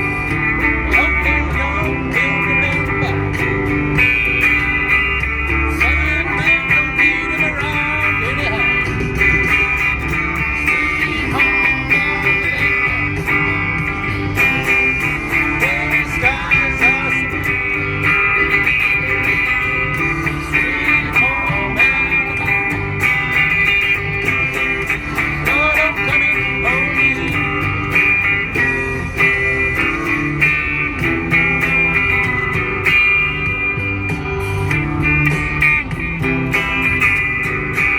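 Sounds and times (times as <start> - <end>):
backing track with steady beat: 0.0 - 37.9
electric guitar with string bends: 0.0 - 37.9.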